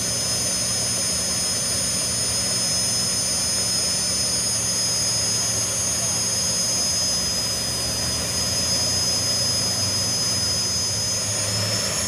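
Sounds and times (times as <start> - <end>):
high-pitched whines: 0.0 - 12.0.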